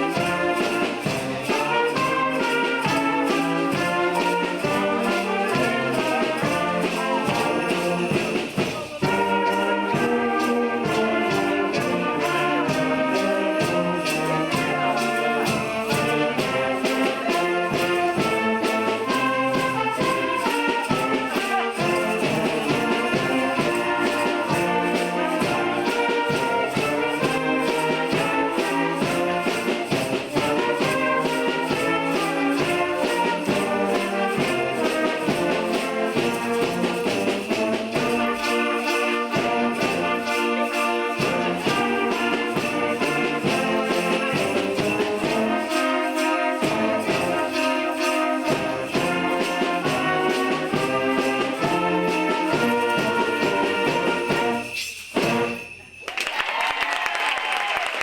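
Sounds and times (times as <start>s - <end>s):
instrumental ensemble music: 0.0s - 58.0s
shaken percussion beat: 0.0s - 58.0s.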